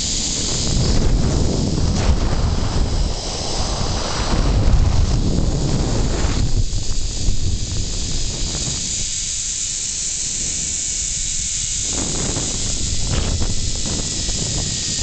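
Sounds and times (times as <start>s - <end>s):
wind buffeting microphone: 0.0s - 15.0s
zipline trolley hissing on cable: 0.0s - 15.0s.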